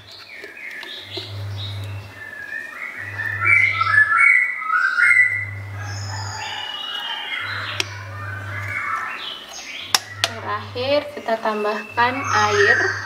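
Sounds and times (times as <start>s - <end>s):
low hum: 0.0s - 13.0s
songbird singing: 0.0s - 13.0s.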